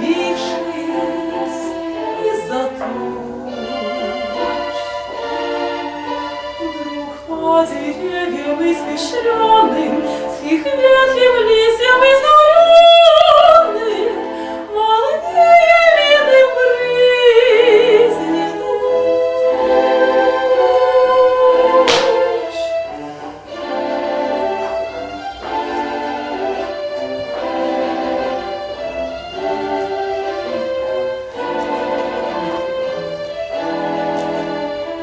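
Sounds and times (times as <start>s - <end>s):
live classical chamber music: 0.0s - 35.0s.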